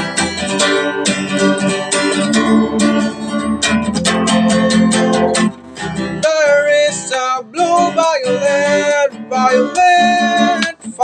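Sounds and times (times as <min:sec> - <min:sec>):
guitar strumming: 0:00.0 - 0:11.0.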